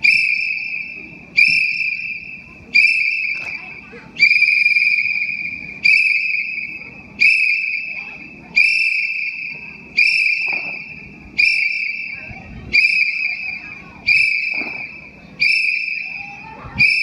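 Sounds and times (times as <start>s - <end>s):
low murmur: 0.0s - 17.0s
shrill whistle blasts: 0.0s - 17.0s.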